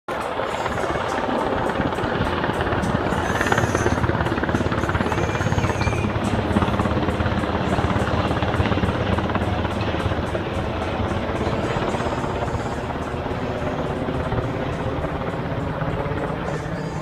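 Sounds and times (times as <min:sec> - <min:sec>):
helicopter engine: 0:00.1 - 0:17.0
helicopter rotor chopping: 0:00.1 - 0:17.0.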